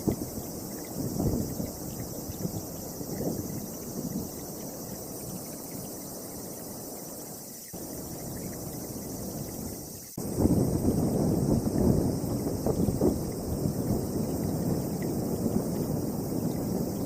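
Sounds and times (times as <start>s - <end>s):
wind buffeting microphone: 0.0s - 7.2s, 7.8s - 17.0s
insects chirring: 0.0s - 17.0s.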